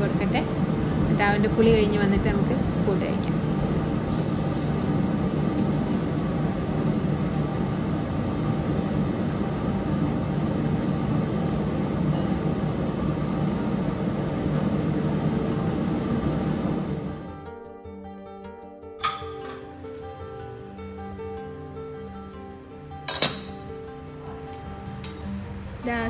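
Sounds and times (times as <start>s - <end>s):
gas stove hum and rush: 0.0s - 26.0s.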